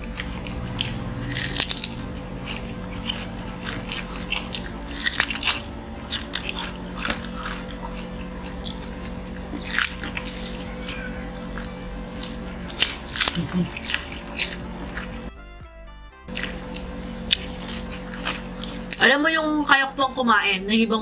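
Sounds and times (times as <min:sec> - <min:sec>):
people chewing crunchy chicken: 0:00.0 - 0:15.4, 0:16.3 - 0:19.1.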